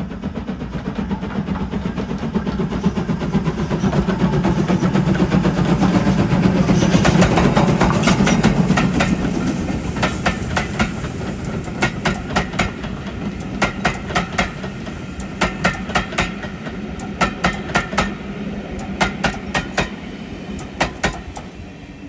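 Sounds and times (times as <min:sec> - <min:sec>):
train wheels clicking over joints: 0:00.0 - 0:21.7
train rumble: 0:00.0 - 0:22.0.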